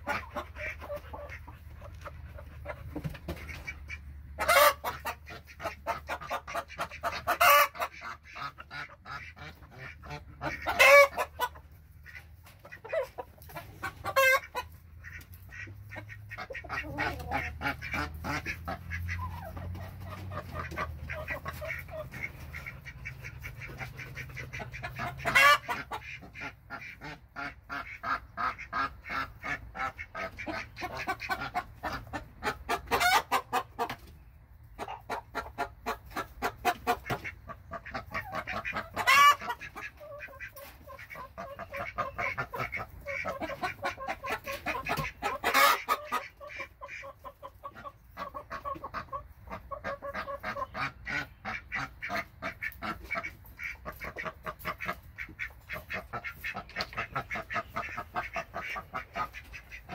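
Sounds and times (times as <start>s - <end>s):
loud fowl calls: 0.0s - 34.1s, 34.8s - 59.9s.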